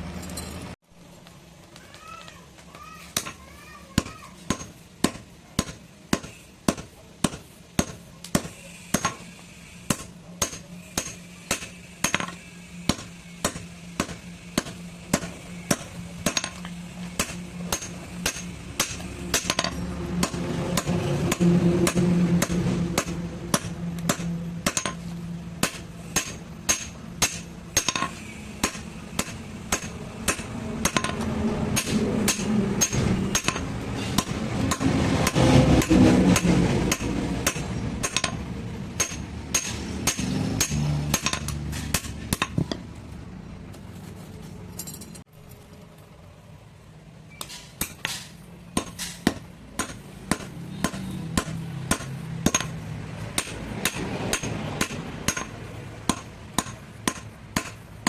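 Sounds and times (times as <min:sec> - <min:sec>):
hammer striking metal: 0:03.1 - 0:42.8, 0:47.4 - 0:57.8.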